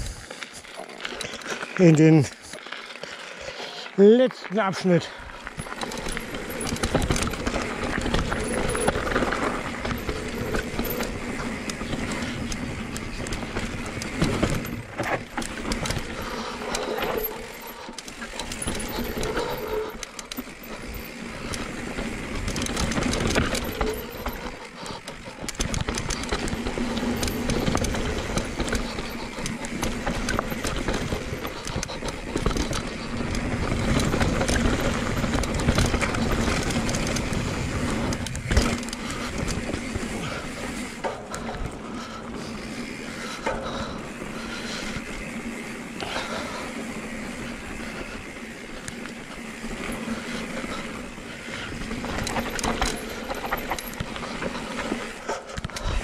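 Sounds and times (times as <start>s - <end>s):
bike tyres rolling on dirt: 0.0s - 56.0s
bike rattles and knocks: 5.1s - 56.0s.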